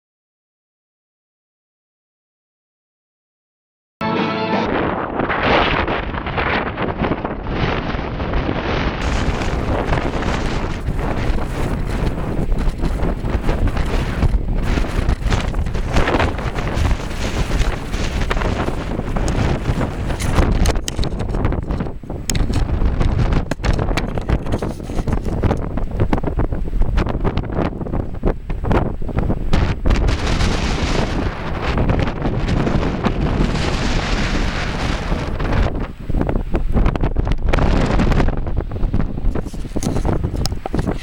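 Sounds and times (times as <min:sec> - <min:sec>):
wind buffeting microphone: 0:04.7 - 0:41.0.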